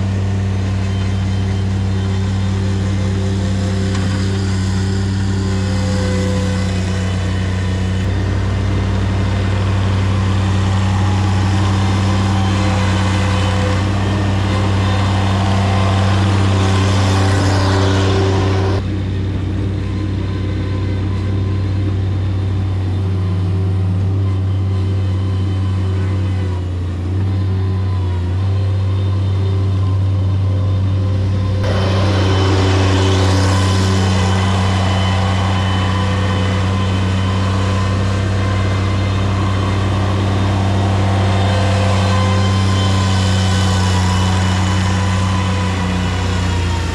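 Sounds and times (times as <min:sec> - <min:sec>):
heavy machinery engine humming: 0:00.0 - 0:46.9.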